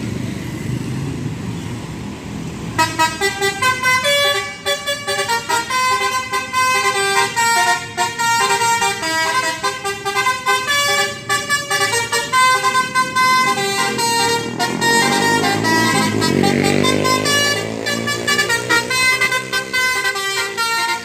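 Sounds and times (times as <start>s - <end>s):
musical bus horn melody: 2.8s - 21.0s.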